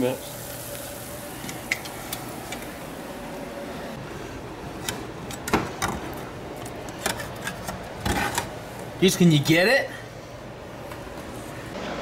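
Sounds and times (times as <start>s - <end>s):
steady low hum: 0.2s - 12.0s.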